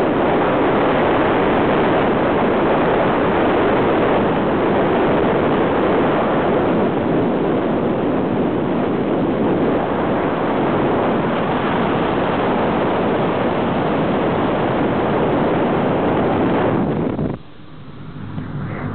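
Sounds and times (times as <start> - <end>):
wind on microphone: 0.0 - 18.9.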